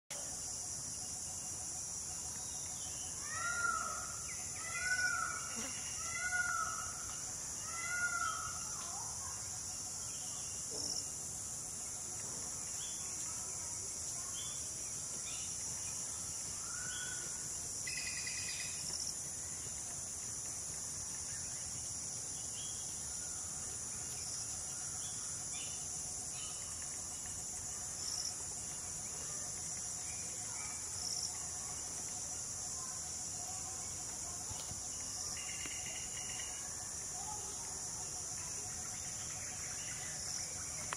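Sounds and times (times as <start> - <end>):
insects chorus: 0.1 - 40.9.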